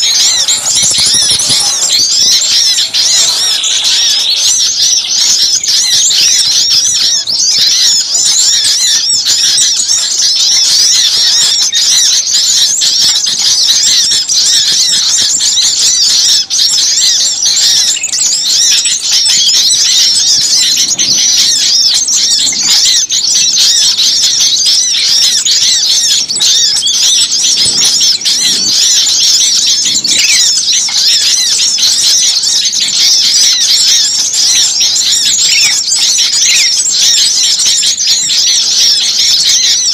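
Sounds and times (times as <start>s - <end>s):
chorus of chirping songbirds: 0.0s - 39.9s.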